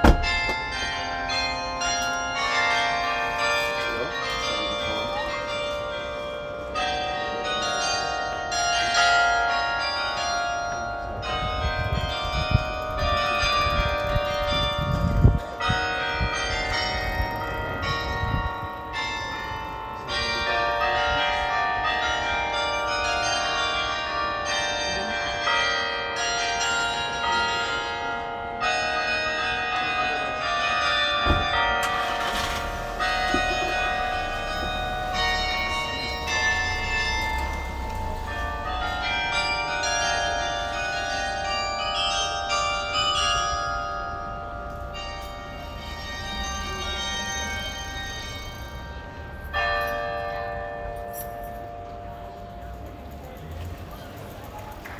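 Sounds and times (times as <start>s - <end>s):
carillon bells playing melody: 0.0s - 53.4s.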